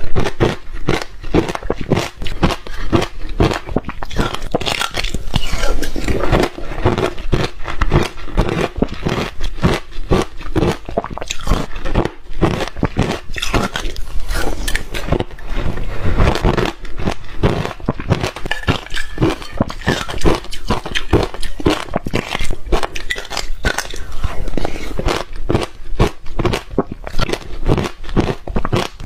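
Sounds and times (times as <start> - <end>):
ice crunching while chewed: 0.0 - 29.0.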